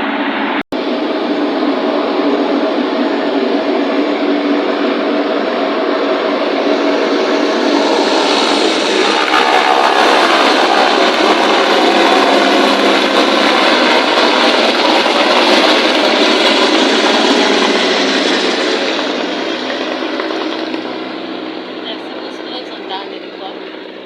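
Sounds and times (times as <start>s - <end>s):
helicopter turbine and rotor noise: 0.0s - 24.0s.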